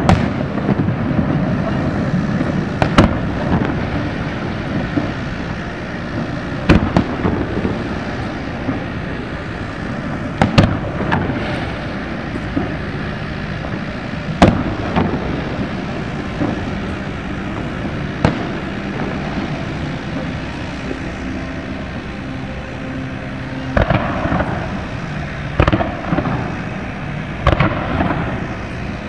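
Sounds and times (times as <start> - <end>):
firework shells bursting: 0.0 - 22.1, 25.5 - 28.6
steady background rumble: 0.0 - 29.0.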